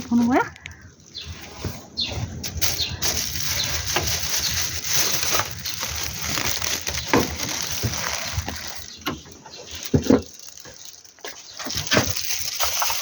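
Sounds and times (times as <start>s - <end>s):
shopping bag rustling: 1.2s - 13.0s.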